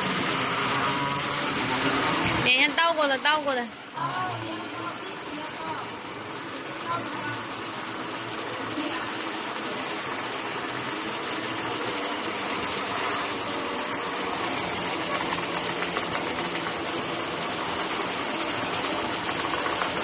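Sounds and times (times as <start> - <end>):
large printer running: 0.0 - 20.0.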